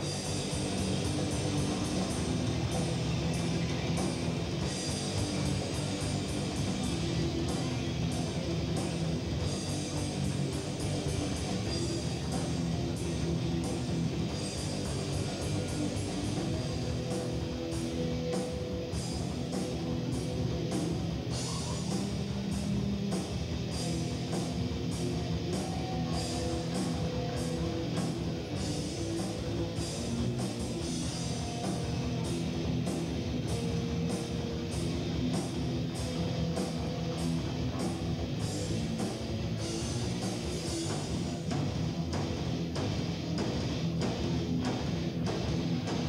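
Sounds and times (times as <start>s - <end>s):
heavy metal band playing live: 0.0s - 46.0s.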